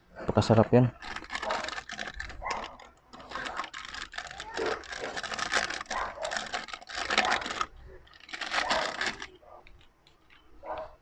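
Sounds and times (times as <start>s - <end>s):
plastic sachet crinkling: 0.9s - 10.5s.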